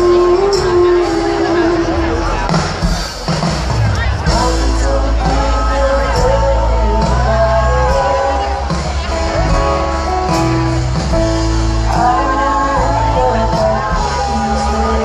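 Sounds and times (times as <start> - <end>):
person singing: 0.0 - 2.6, 4.2 - 15.0
folk-rock band playing live: 0.0 - 15.0
steady bass line: 0.0 - 15.0.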